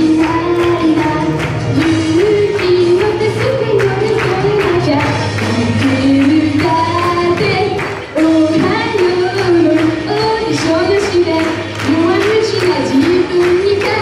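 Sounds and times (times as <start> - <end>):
woman singing into microphone: 0.0 - 14.0.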